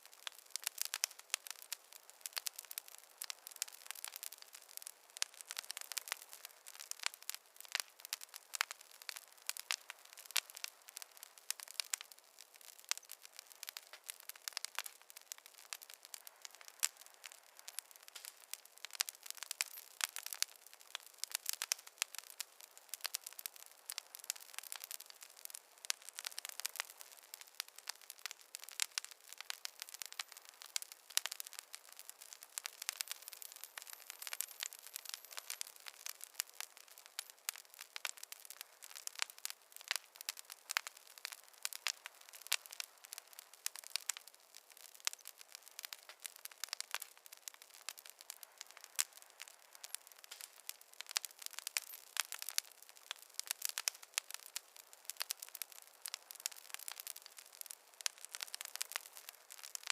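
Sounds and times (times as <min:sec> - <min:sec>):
fireplace fire crackling: 0:00.0 - 0:59.9.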